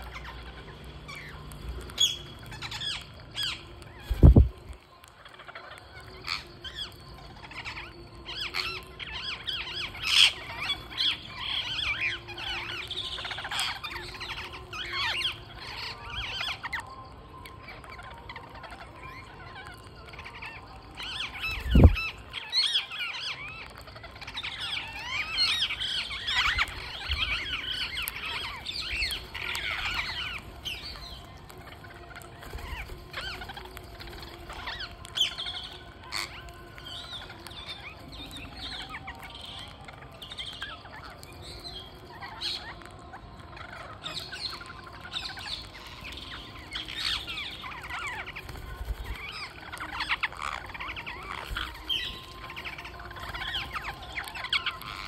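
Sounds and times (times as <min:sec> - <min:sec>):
parakeets chattering: 0:00.0 - 0:55.0.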